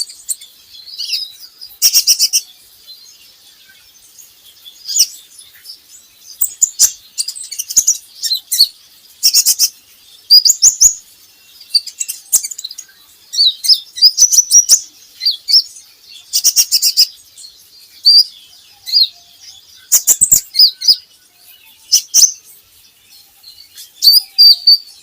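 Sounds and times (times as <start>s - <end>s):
sunbird high chirps and trills: 0.0s - 25.0s.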